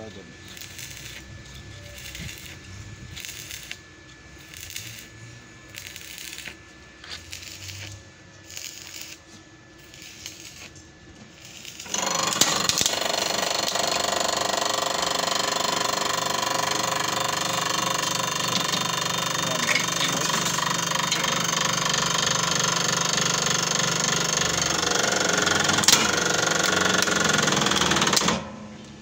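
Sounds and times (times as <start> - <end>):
electric motor running: 0.0 - 28.4.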